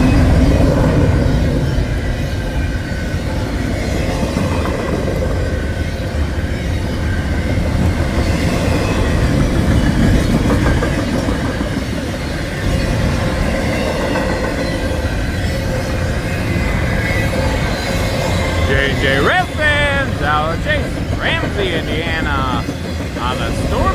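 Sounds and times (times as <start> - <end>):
freight train rolling past: 0.1 - 23.9.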